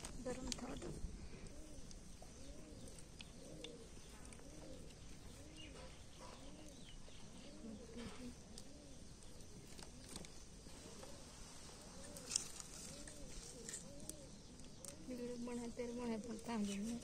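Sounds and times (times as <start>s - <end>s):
dove cooing: 0.0s - 17.0s
faint bird chirps: 0.2s - 17.0s.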